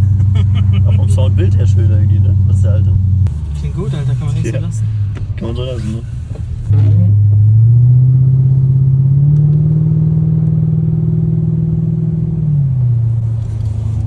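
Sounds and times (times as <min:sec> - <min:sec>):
loud car engine accelerating: 0:00.0 - 0:14.0.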